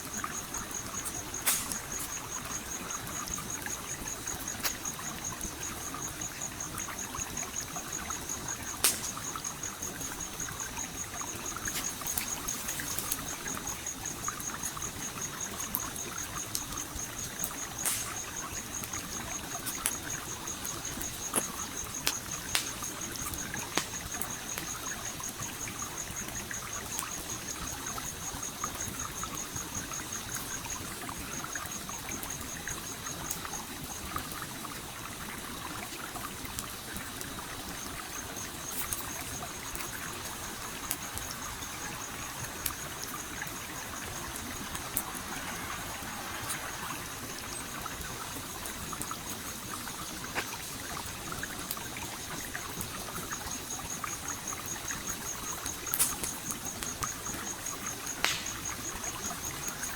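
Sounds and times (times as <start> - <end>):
flowing stream: 0.0 - 59.9
campfire crackling and popping: 0.1 - 35.4, 36.0 - 59.9.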